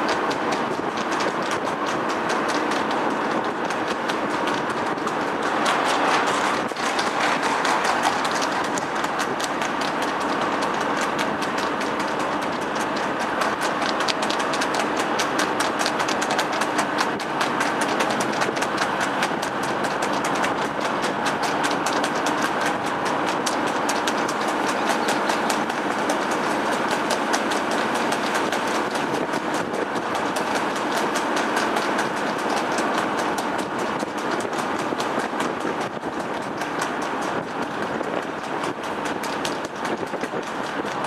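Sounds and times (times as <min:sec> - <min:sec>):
hooves on wet tarmac: 0:00.0 - 0:41.0
wind noise: 0:00.0 - 0:41.0.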